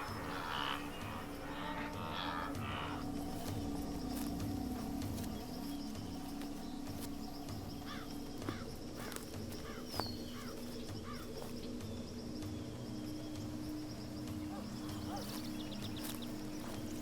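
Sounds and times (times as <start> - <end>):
bird calling: 0.0 - 17.0
faint high insect hiss: 0.0 - 17.0
steady low drone: 0.0 - 17.0.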